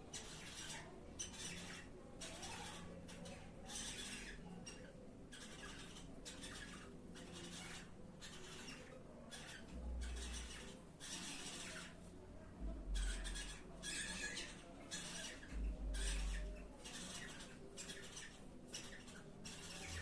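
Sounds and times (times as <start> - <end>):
birds raspy calls: 0.0 - 12.1, 12.7 - 20.0.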